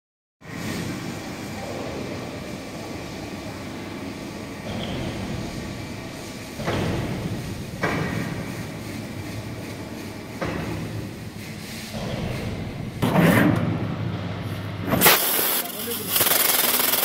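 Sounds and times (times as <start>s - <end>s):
factory machinery hum: 0.4s - 17.0s.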